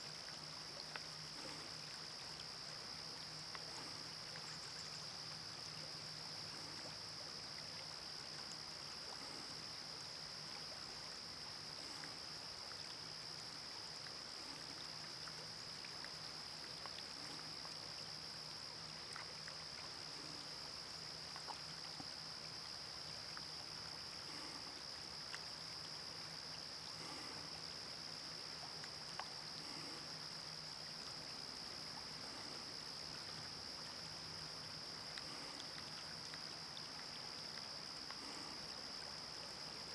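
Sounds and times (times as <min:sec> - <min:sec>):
faint ticks: 0:00.0 - 0:39.9
river water over stones: 0:00.0 - 0:39.9.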